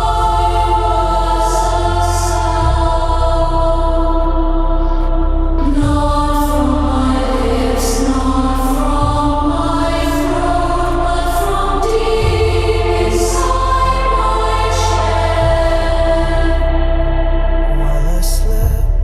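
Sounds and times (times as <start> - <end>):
choir-like voices singing: 0.0 - 19.0
low drone: 0.0 - 19.0.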